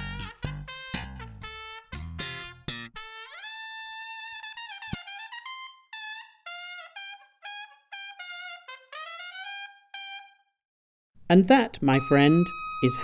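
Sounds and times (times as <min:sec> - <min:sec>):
solo brass melody: 0:00.0 - 0:10.6.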